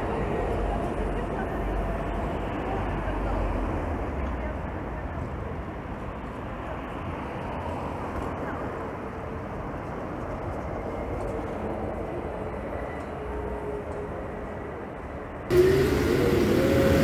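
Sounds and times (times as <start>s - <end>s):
city street traffic: 0.0s - 17.0s
electric bus passing: 0.0s - 17.0s
faint whine of bus: 0.0s - 17.0s.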